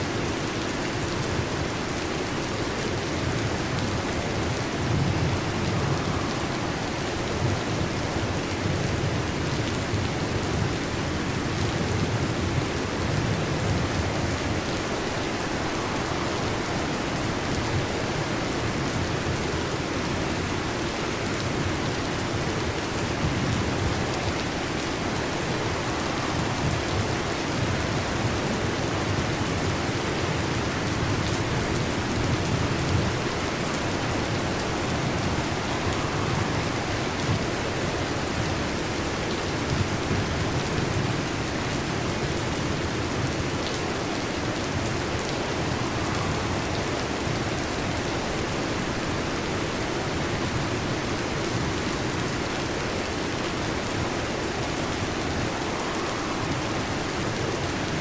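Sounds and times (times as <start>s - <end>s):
heavy rain on metal roof: 0.0s - 58.0s.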